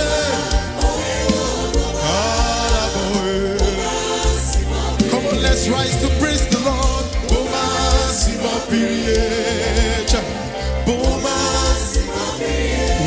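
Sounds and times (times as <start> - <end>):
band with bass and drums: 0.0 - 13.0
gospel singing voices: 0.0 - 13.0.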